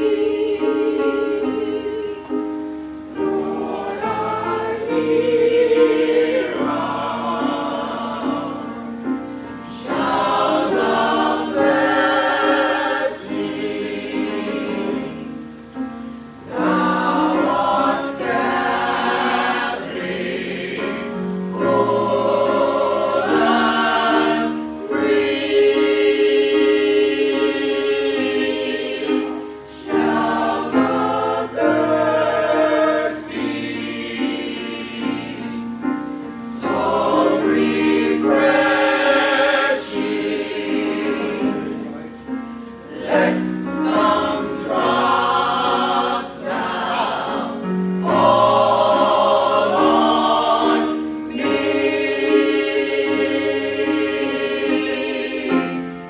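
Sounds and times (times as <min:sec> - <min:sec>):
choir singing in parts: 0:00.0 - 0:56.0.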